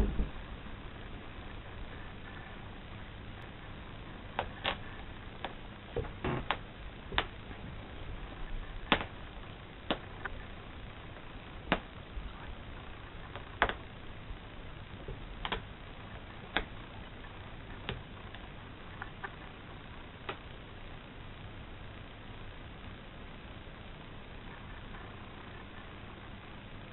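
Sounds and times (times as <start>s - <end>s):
steady low hiss: 0.0s - 26.9s.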